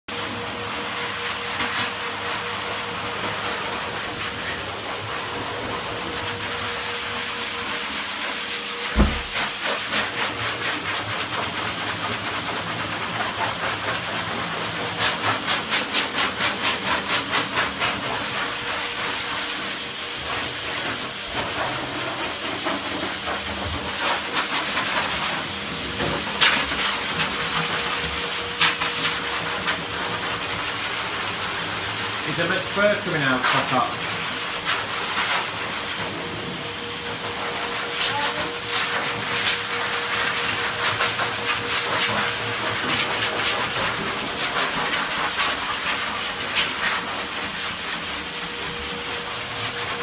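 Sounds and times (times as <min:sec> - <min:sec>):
dog grooming dryer blowing air: 0:00.1 - 0:50.0.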